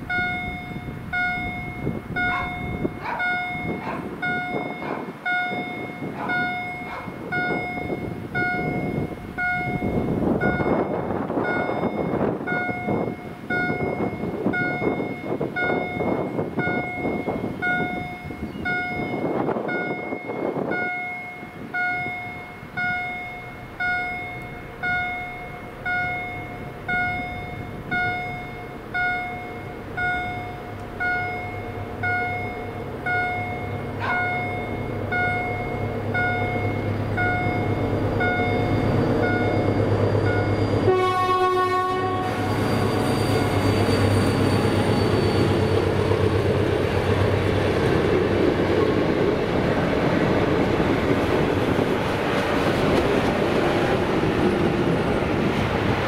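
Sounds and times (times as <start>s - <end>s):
level crossing warning bell: 0.0s - 47.5s
passing train rumble: 0.0s - 56.0s.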